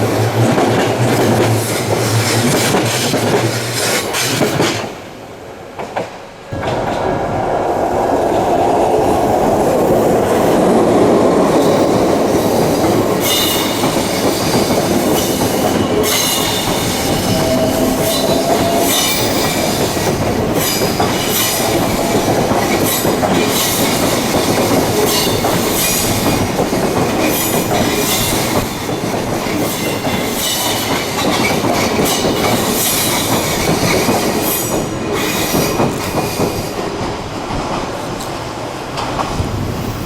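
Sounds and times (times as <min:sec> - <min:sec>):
electric train wheels clattering: 0:05.7 - 0:40.0.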